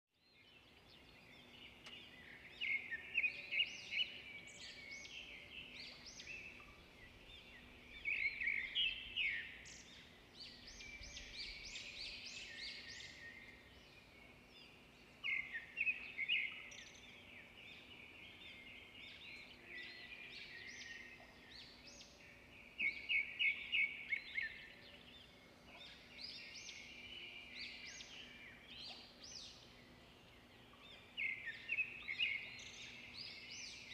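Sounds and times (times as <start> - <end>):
birds chirping: 0.3 - 33.9.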